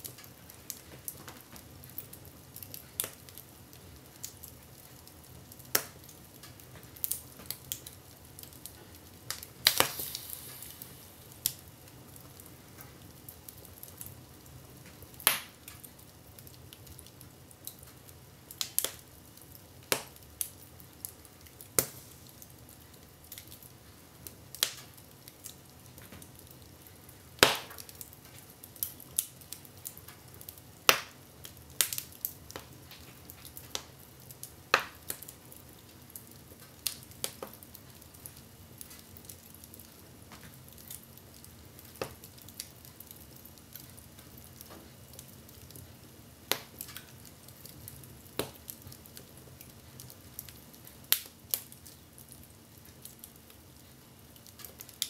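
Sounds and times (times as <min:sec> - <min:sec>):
faint steady hiss: 0:00.0 - 0:55.0
wood fire crackling: 0:00.0 - 0:55.0.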